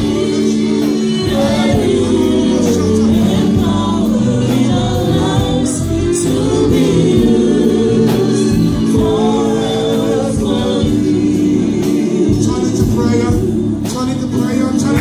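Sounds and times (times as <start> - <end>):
man and women singing gospel: 0.0 - 15.0.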